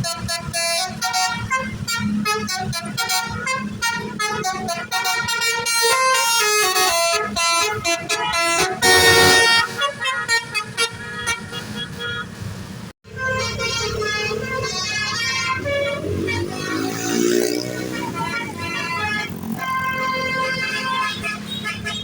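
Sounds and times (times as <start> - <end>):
multi-tone air horn tune: 0.0 - 12.3, 13.1 - 22.0.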